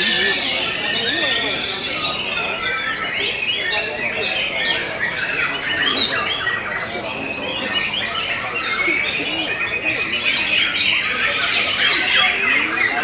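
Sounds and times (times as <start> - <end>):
birds singing whistles and chatter: 0.0 - 13.0.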